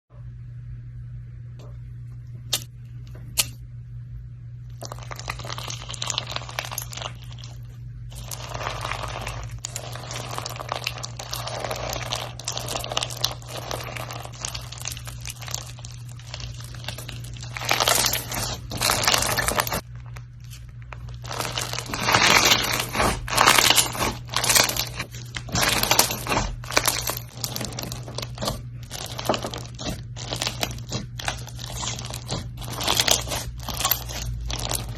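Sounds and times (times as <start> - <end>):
steady low hum: 0.1 - 34.9
slime crackling and popping: 4.7 - 34.9.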